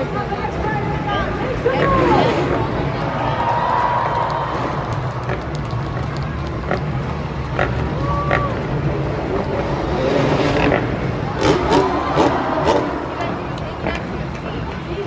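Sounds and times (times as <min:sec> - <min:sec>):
crowd chatter: 0:00.0 - 0:15.0
vehicle engines rumbling: 0:00.0 - 0:15.0.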